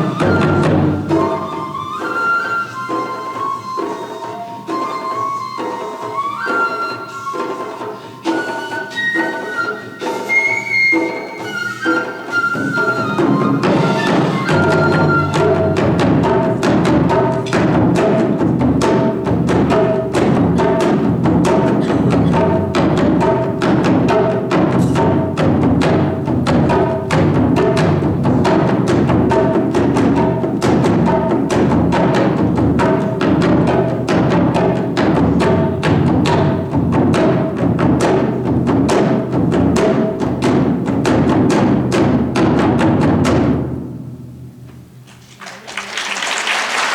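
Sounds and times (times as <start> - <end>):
taiko drum ensemble: 0.0 - 45.0.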